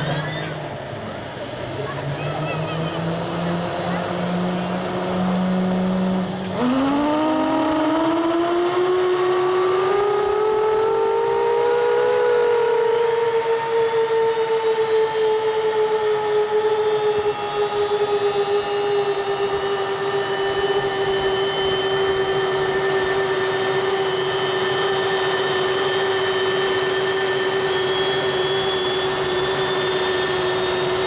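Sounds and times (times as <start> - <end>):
jet engine whine spooling up: 0.0 - 31.0.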